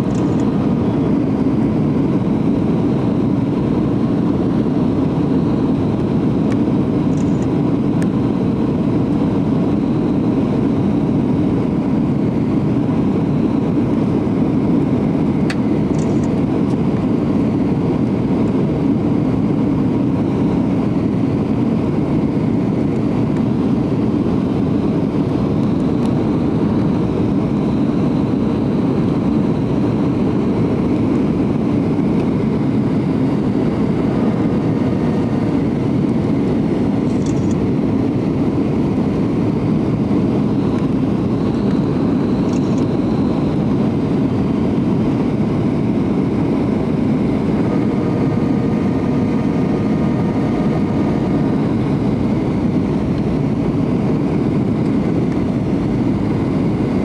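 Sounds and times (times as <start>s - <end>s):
jet engines roaring: 0.0s - 57.0s
rushing airflow: 0.0s - 57.0s.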